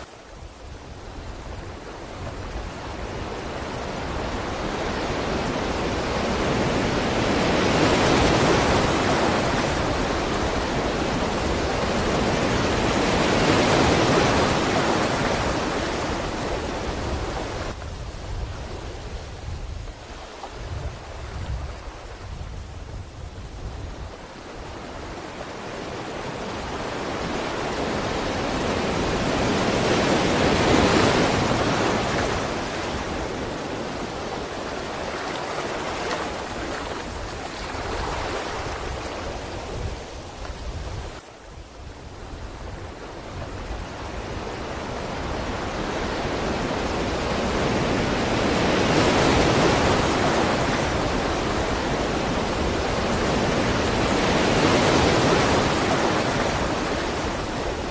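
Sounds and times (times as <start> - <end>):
ocean waves breaking: 0.0 - 57.9.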